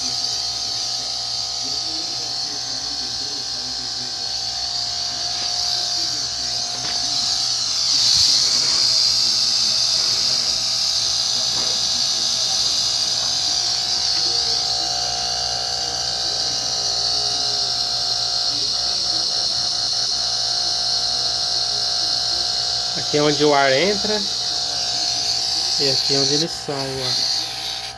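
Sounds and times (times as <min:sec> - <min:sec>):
compressor humming and hissing: 0:00.0 - 0:27.9.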